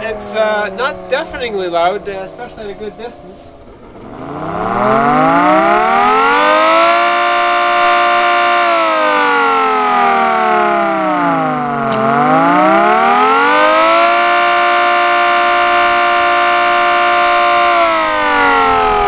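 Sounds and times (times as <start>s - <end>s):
air raid siren wailing: 0.0s - 19.0s.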